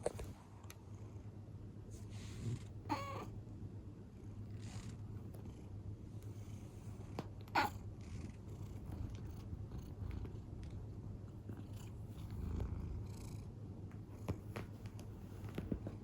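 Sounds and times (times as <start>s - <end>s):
cat purring: 2.0s - 3.4s, 4.2s - 16.0s.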